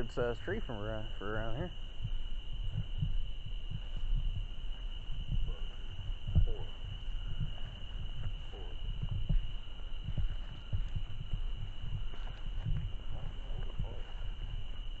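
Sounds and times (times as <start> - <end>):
crickets chirping: 0.0 - 15.0
low thumps: 0.0 - 15.0.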